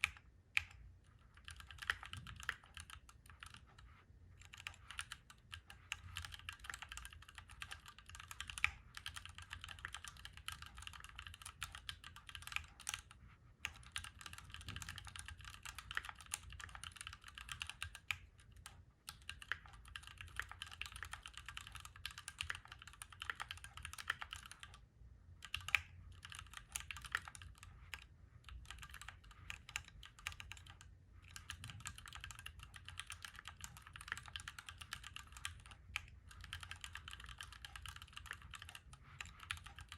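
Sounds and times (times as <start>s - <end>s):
fast typing on mechanical keyboard: 1.3s - 3.8s, 4.4s - 24.8s, 25.4s - 39.9s.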